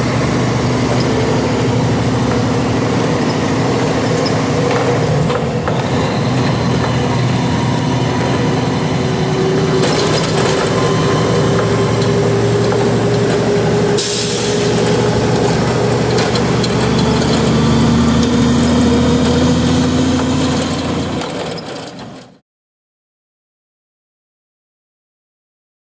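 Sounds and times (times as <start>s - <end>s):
truck engine and road noise: 0.0s - 22.4s.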